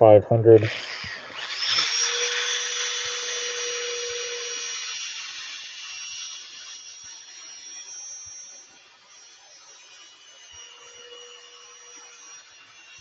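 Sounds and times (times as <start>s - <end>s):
electric drill motor whine: 0.7s - 13.0s
sanding disc hissing on wood: 0.7s - 13.0s.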